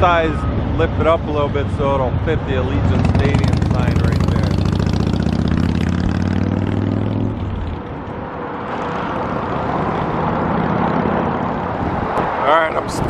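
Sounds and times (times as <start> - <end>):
road traffic rushing: 0.0 - 13.0
vehicle engine droning: 0.0 - 13.0.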